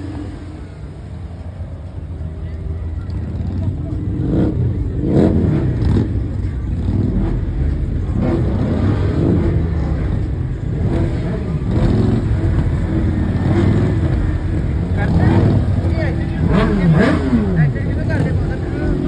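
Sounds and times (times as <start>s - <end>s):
car engine revving: 0.0s - 19.0s
low rumble of running engines: 0.0s - 19.0s.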